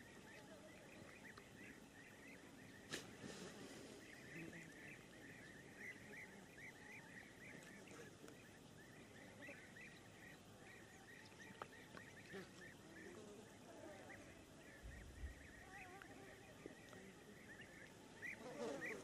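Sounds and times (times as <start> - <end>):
faint chattering bird calls: 0.0 - 19.0.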